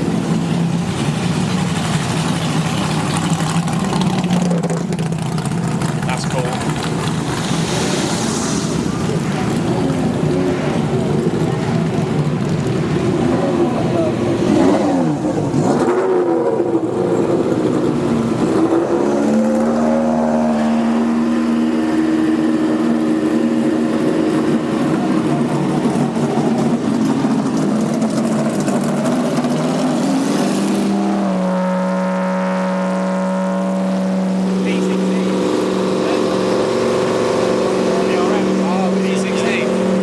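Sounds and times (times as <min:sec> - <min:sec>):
racing car engines revving: 0:00.0 - 0:40.0.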